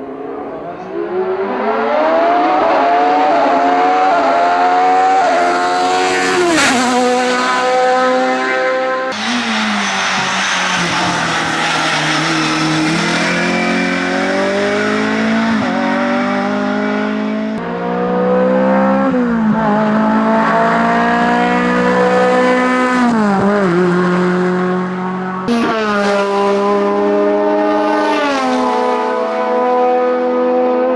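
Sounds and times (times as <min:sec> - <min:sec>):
race car engines revving: 0:00.0 - 0:30.9.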